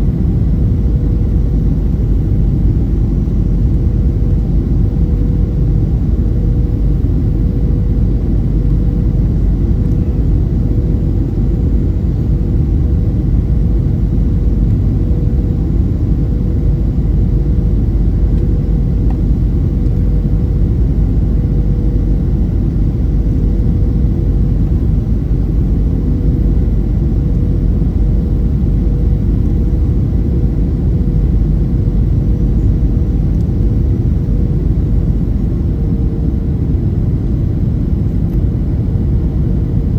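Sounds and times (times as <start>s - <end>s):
airplane cabin drone: 0.0s - 39.9s
faint steady hum: 0.0s - 39.9s.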